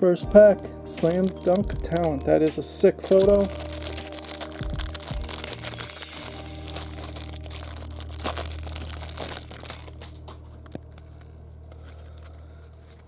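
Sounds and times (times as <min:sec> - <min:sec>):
plastic wrapper tearing and crinkling: 0:00.9 - 0:13.0.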